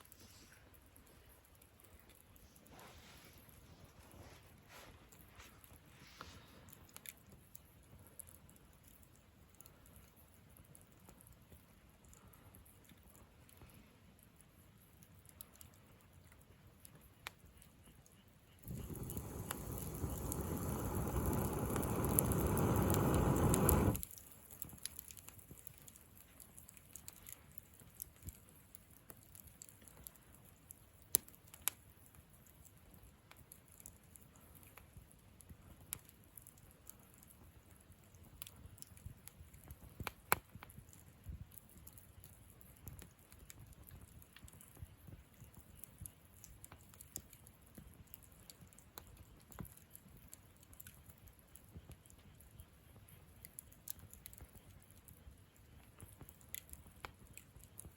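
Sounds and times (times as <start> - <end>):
campfire crackling: 0.0 - 2.4, 4.5 - 57.9.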